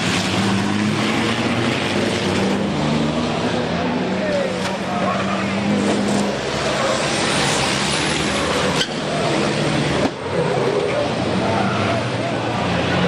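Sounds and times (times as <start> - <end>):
racing truck engines: 0.0 - 13.0.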